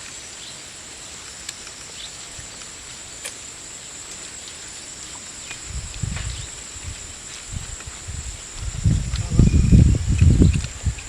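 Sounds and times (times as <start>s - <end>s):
high-pitched insect drone: 0.1s - 11.0s.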